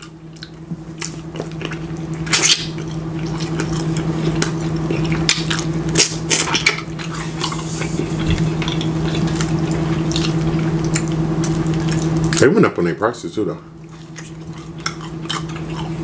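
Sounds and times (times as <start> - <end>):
wet chewing: 0.0 - 12.5, 13.8 - 16.0
low hum: 0.0 - 16.0.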